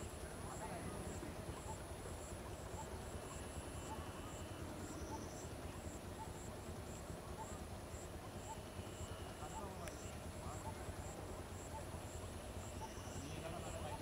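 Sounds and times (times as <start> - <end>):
faint steady high whine: 0.0 - 14.0
insects chirping: 0.5 - 14.0.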